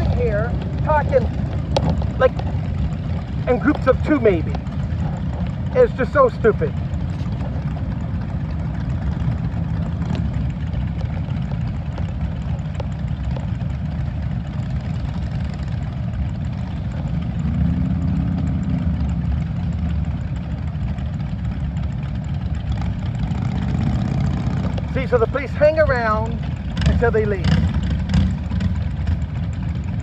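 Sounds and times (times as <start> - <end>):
motorcycle engines idling: 0.0 - 30.0.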